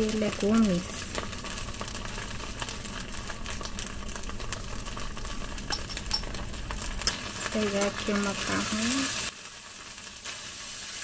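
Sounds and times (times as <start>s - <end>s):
sausage sizzling in a frying pan: 0.0s - 11.0s.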